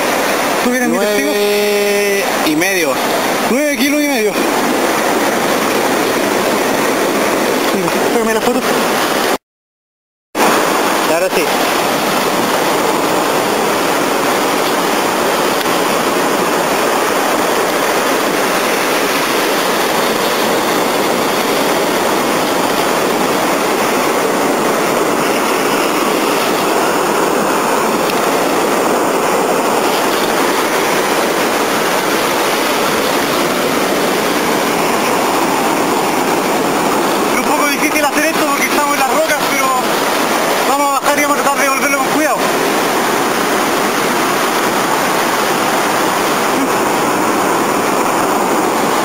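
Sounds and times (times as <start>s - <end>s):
surf breaking on rocky shore: 0.0s - 9.4s, 10.4s - 49.0s.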